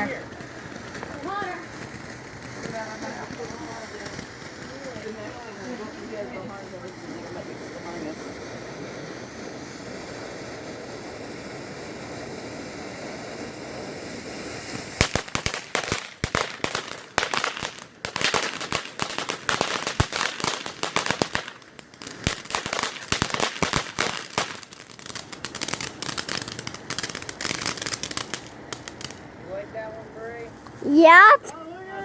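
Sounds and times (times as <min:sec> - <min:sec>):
firework cracks and pops: 0:00.0 - 0:29.3
steady background hiss: 0:00.0 - 0:32.0.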